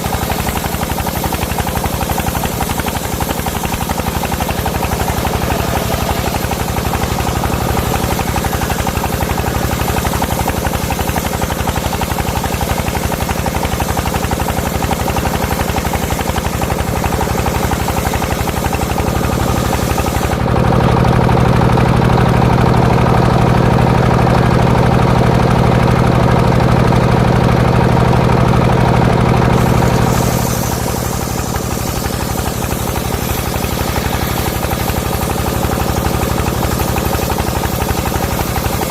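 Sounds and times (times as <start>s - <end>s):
circular saw engine running: 0.0s - 38.9s.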